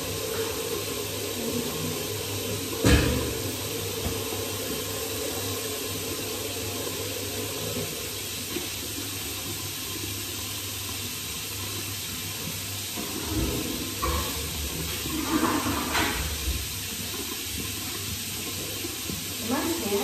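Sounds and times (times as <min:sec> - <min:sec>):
water running: 0:00.0 - 0:20.0.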